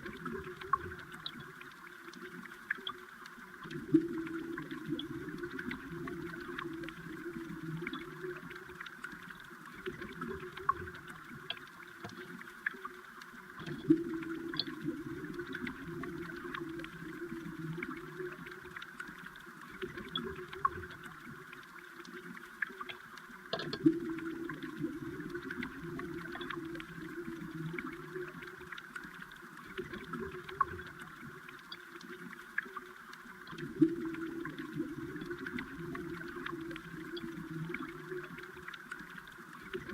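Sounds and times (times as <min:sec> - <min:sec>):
muffled underwater rushing water: 0:00.0 - 0:39.9
small underwater clicks and ticks: 0:00.0 - 0:39.9.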